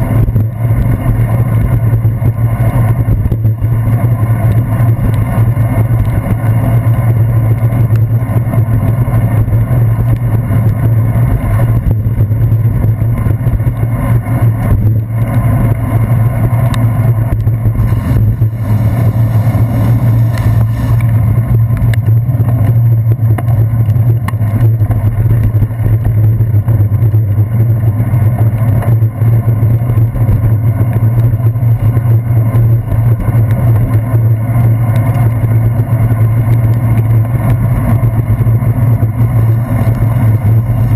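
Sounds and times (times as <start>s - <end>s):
bicycle road vibration: 0.0s - 40.9s
wind rumble: 0.0s - 40.9s.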